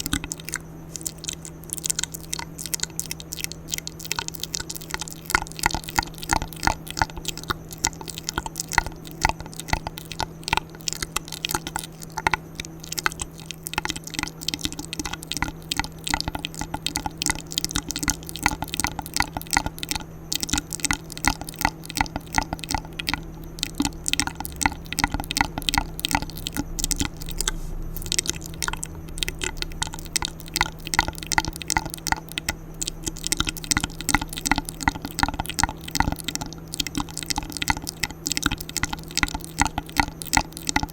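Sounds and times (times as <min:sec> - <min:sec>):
faint steady hum: 0:00.0 - 0:40.9
wet mouth clicks and smacks: 0:00.0 - 0:40.9.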